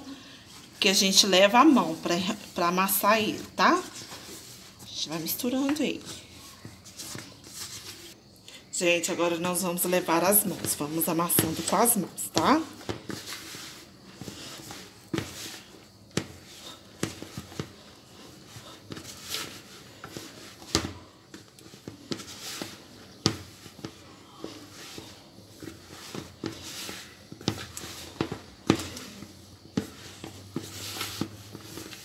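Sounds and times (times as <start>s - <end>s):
soft rustling of kneading: 0.0s - 32.0s.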